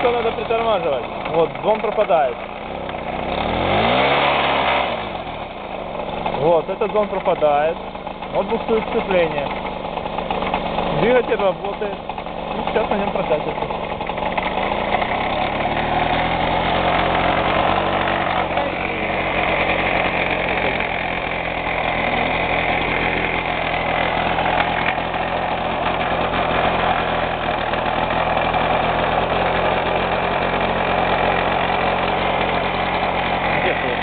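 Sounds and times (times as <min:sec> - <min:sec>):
two-stroke moped engine running: 0:00.0 - 0:34.0.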